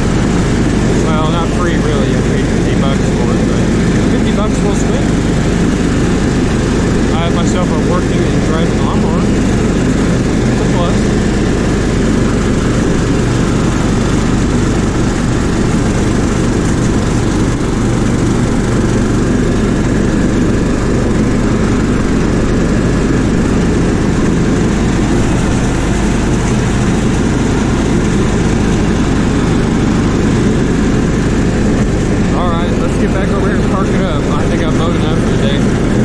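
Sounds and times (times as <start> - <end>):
riding lawn mower engine: 0.0 - 36.0.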